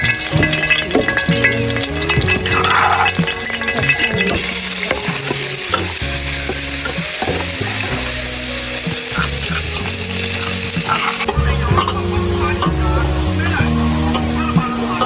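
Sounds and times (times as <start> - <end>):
food sizzling in a pan: 0.0 - 15.0
utensil scraping a pan: 0.0 - 15.0.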